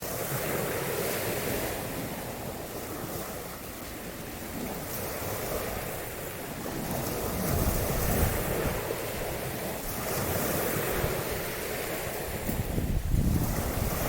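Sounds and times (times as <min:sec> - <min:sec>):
surf washing on shore: 0:00.0 - 0:14.0
wind buffeting microphone: 0:00.0 - 0:14.0.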